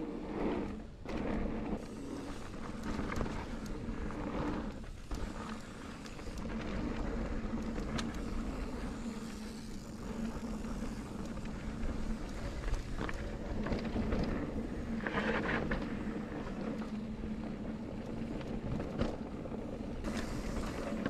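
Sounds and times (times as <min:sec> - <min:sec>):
bike tyre noise on trail: 0:00.0 - 0:21.0
bike clicks and rattles: 0:00.6 - 0:21.0.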